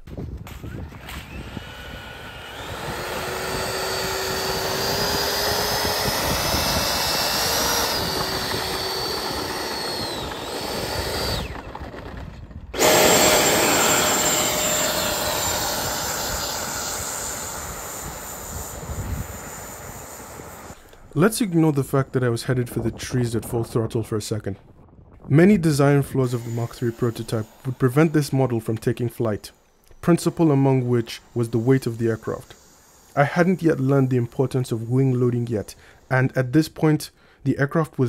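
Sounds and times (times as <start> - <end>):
electric ducted fan whining: 0.0 - 24.4, 25.2 - 36.8.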